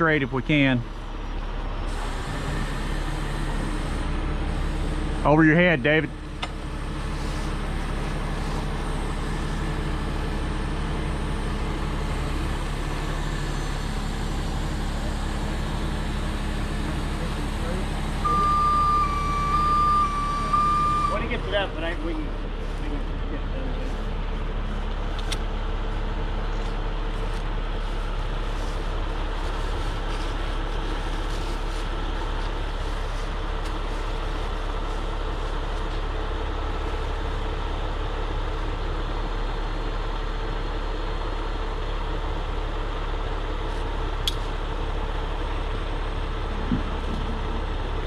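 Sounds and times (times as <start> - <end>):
diesel engine humming: 0.0 - 48.0.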